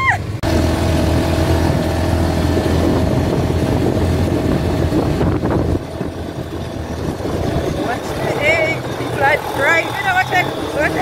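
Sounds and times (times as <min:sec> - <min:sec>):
dune buggy engine running: 0:00.0 - 0:11.0
road and rolling noise: 0:00.0 - 0:11.0.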